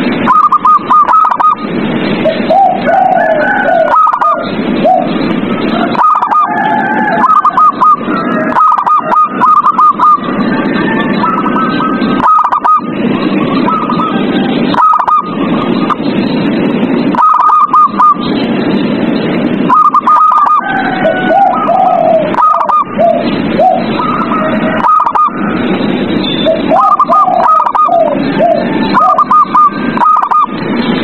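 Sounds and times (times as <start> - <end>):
rough background noise: 0.0 - 31.0
doves cooing: 0.2 - 16.1, 17.1 - 18.4, 19.7 - 25.8, 26.4 - 30.6.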